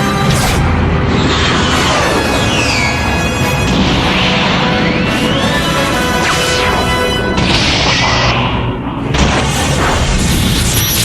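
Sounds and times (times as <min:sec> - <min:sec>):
low rumble: 0:00.0 - 0:11.0
music: 0:00.0 - 0:11.0
loud crash: 0:00.3 - 0:11.0.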